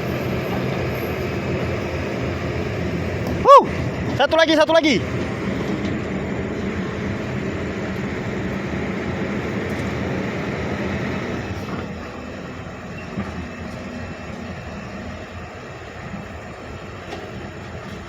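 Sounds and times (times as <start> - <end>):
diesel machinery engine drone: 0.0 - 18.0.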